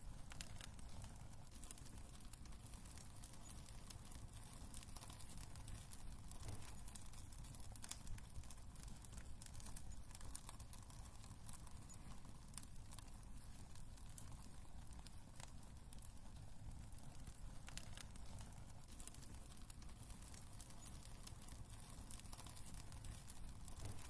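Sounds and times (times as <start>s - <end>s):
low steady rumble: 0.0s - 24.0s
wood fire crackling: 0.0s - 24.0s.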